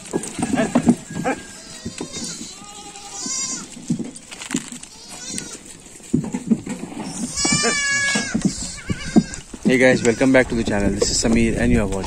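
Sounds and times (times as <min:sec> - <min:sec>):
goats bleating: 0:00.0 - 0:06.1, 0:06.8 - 0:11.0.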